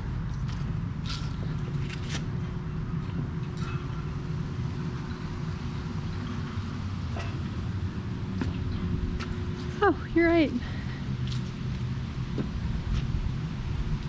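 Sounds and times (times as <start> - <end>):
wind buffeting microphone: 2.4 - 14.0.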